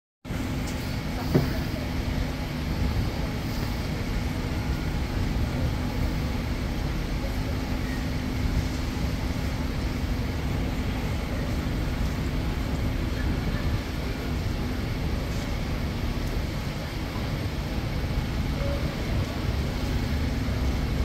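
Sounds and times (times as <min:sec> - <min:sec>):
road noise: 0:00.2 - 0:21.0
bus and car engines humming: 0:00.3 - 0:21.0.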